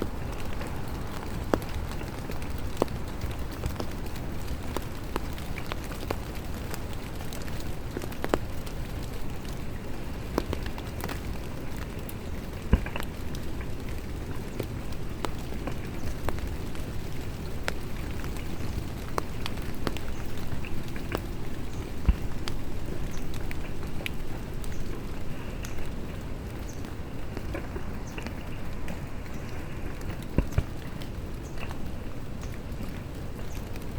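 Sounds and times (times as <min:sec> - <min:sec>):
light rain falling: 0:00.0 - 0:33.9.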